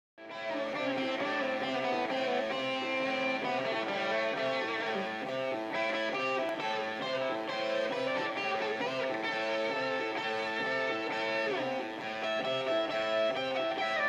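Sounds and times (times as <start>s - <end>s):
live rock electric guitar: 0.2s - 14.0s.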